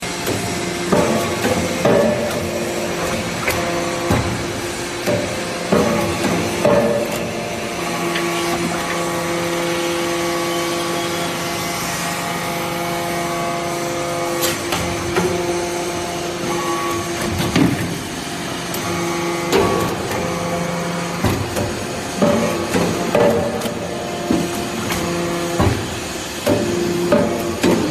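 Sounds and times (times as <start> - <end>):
hydraulic press motor humming: 0.0 - 27.9.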